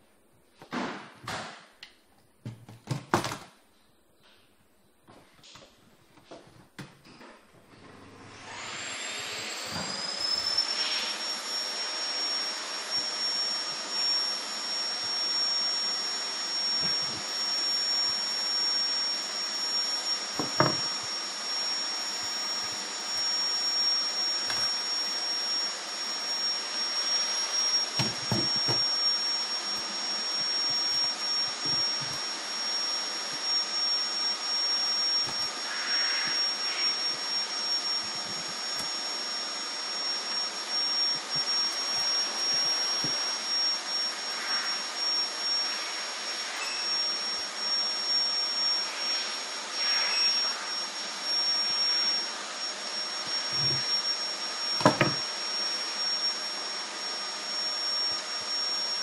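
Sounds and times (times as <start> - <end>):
electric fan motor whining: 7.8 - 45.5, 49.2 - 59.0.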